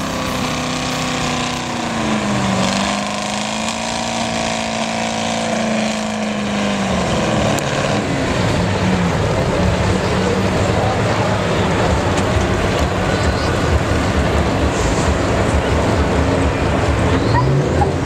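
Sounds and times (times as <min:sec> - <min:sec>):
diesel truck engine revving: 0:00.0 - 0:18.0.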